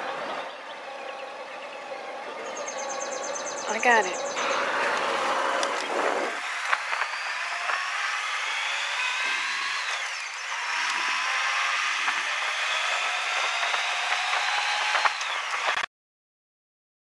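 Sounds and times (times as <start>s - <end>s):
trike engine accelerating: 0.0s - 15.9s.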